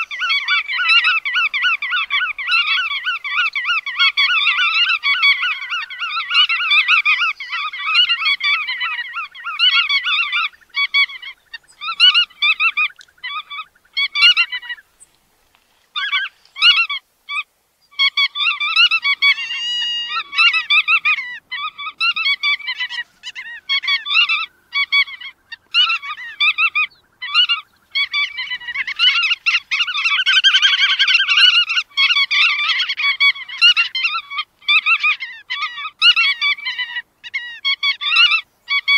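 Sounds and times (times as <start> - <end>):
flock of birds calling: 0.0 - 38.9.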